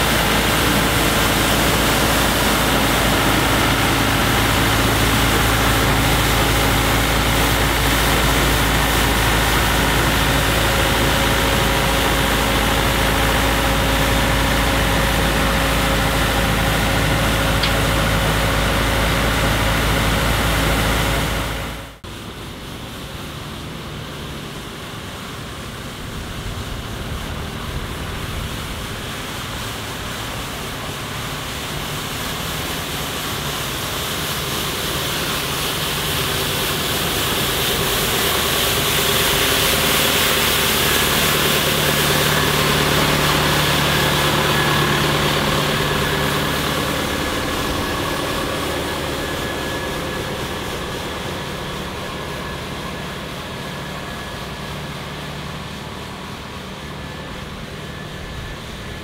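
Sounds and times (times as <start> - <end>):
tractor diesel engine: 0.0 - 59.0.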